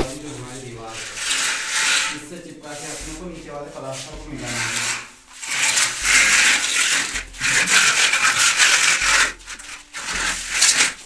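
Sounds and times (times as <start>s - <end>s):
straight-edge scraping plaster: 0.0s - 11.0s.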